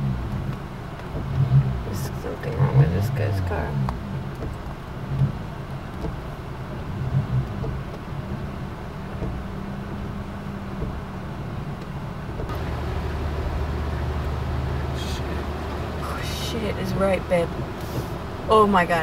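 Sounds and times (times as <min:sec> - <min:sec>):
deeper engine tone: 0:00.0 - 0:05.8, 0:06.8 - 0:19.0
car engine humming: 0:00.0 - 0:19.0.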